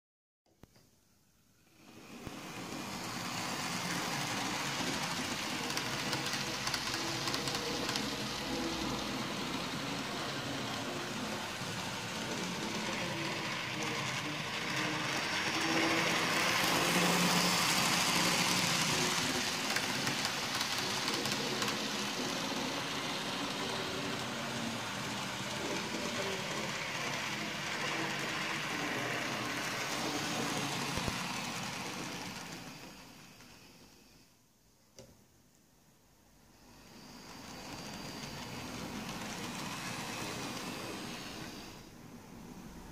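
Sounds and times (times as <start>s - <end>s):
model train motor whirring: 1.6s - 34.3s, 36.6s - 41.8s
wheels running on track: 1.7s - 33.9s, 36.6s - 41.9s.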